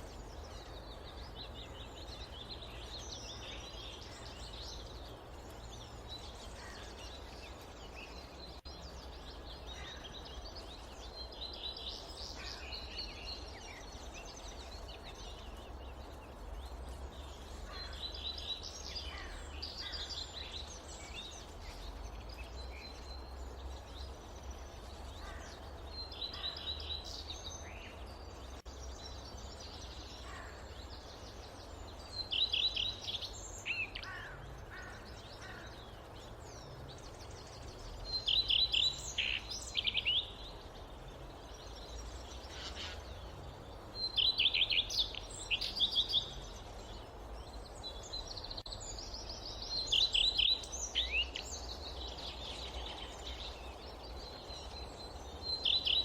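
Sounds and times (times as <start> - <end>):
bird chirping: 0.0 - 56.0
low rumble of wind: 0.0 - 56.0.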